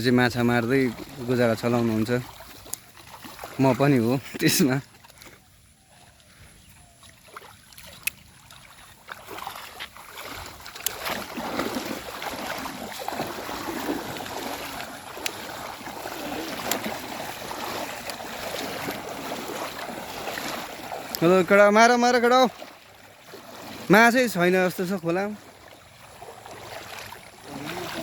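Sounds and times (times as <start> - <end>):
river water splashing: 0.0 - 28.0.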